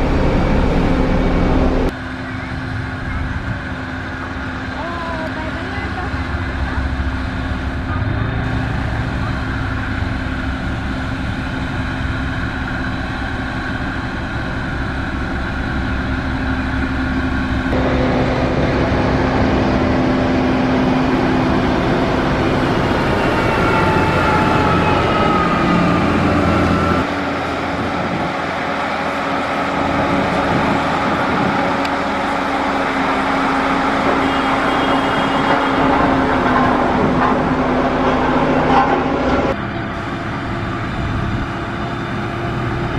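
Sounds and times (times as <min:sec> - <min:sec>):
heavy machinery diesel engines: 0:00.0 - 0:42.9.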